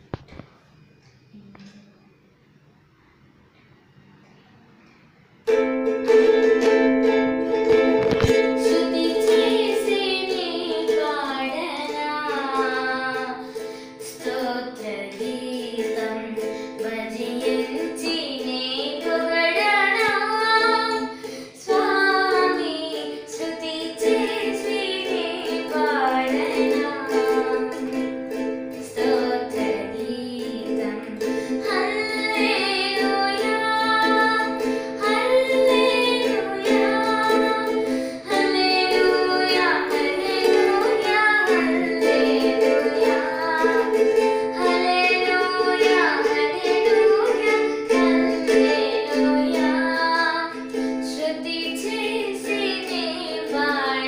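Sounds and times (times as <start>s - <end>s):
ukulele chords: 5.2s - 54.0s
girl singing: 6.0s - 54.0s.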